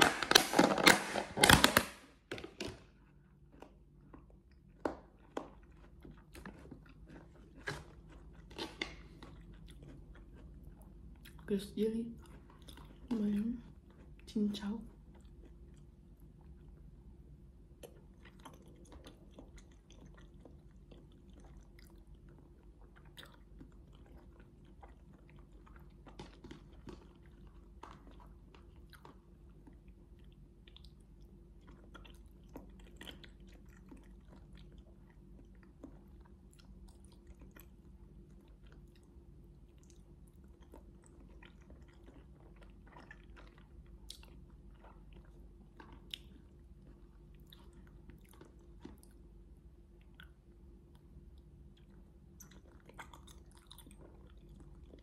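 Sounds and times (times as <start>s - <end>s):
low steady hum: 0.0s - 55.0s
soft chewing and mouth clicks: 2.9s - 55.0s.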